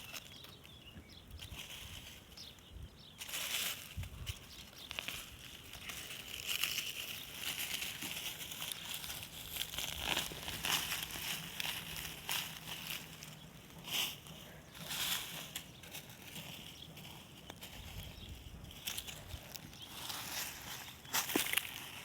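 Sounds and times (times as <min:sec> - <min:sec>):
dry plants rustling and crinkling: 0:00.0 - 0:22.0.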